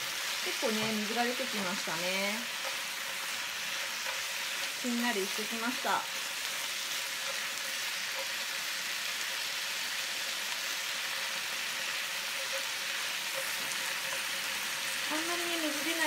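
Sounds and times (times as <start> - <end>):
food sizzling in a frying pan: 0.0 - 16.0
stirring in a frying pan: 0.0 - 16.0.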